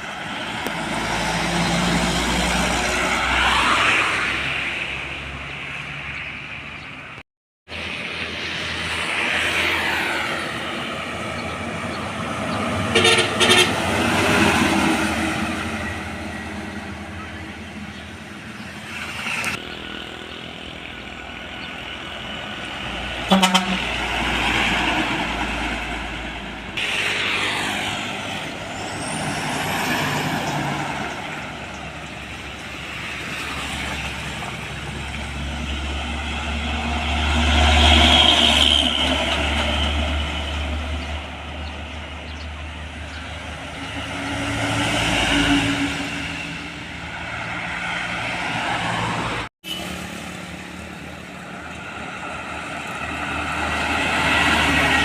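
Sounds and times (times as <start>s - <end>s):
heavy diesel trucks passing: 0.0s - 55.0s.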